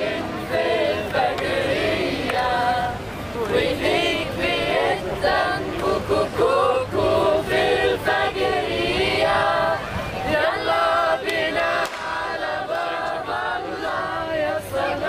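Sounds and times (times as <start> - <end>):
group singing without instruments: 0.0 - 15.0.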